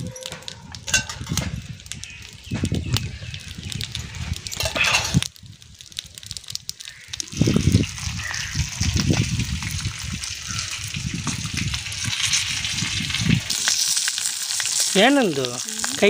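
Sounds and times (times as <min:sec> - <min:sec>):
low rumbles: 0:00.0 - 0:14.2
fish sizzling in oil: 0:00.8 - 0:16.0.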